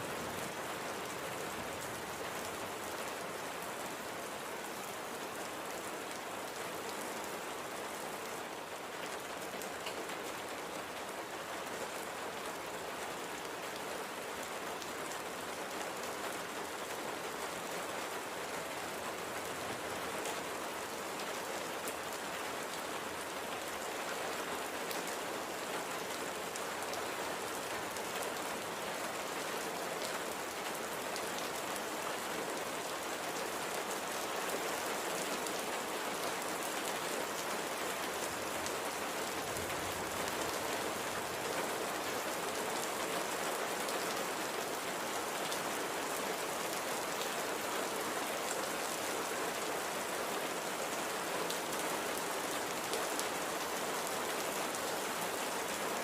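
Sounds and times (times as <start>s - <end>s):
light rain hiss: 0.0s - 56.0s.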